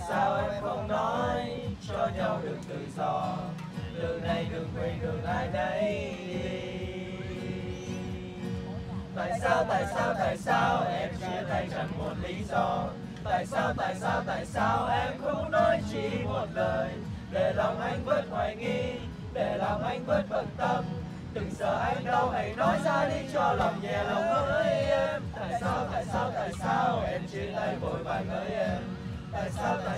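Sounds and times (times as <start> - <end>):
acoustic guitar strumming: 0.0 - 29.9
group of men singing: 0.0 - 29.9.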